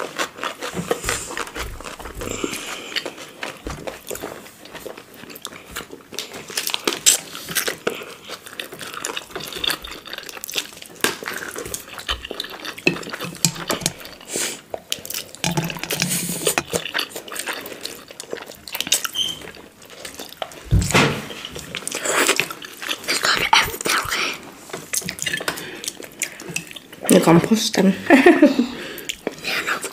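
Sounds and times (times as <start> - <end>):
people slurping and chewing noodles: 0.0 - 29.9.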